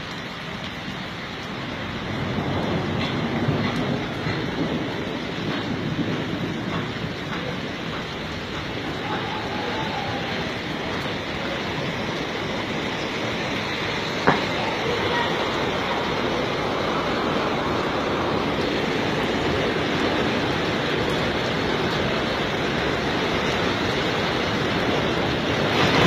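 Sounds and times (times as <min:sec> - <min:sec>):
floodwater rushing down street: 0:00.0 - 0:26.0
heavy rain: 0:00.0 - 0:26.0.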